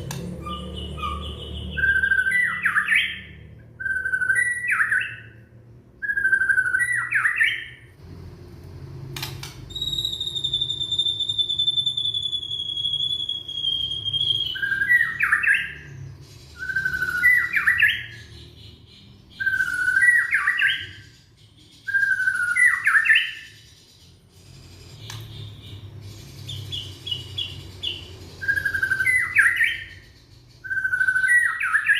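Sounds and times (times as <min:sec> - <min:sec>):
songbird singing: 0:00.0 - 0:08.0, 0:08.7 - 0:31.9.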